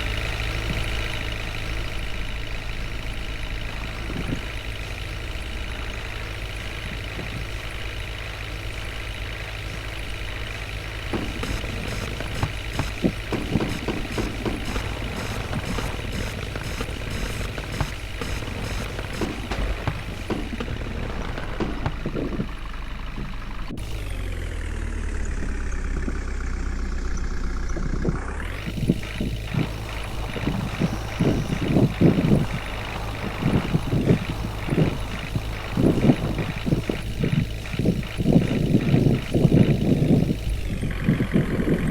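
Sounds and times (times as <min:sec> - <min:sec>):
knocks and clatter: 0:00.0 - 0:24.1, 0:27.7 - 0:41.9
truck engine idling: 0:00.0 - 0:41.9.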